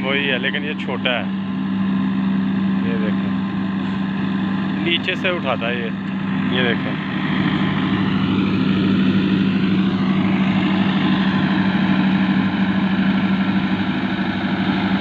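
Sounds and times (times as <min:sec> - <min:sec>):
straw chopper drone: 0:00.0 - 0:15.0
tractor engine under load: 0:00.0 - 0:15.0.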